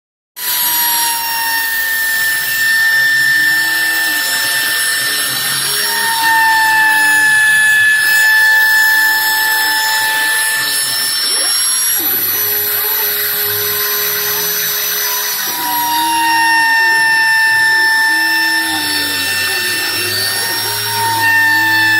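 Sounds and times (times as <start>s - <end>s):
spindle high whine: 0.4s - 21.9s
stepper motors whirring: 0.4s - 21.9s.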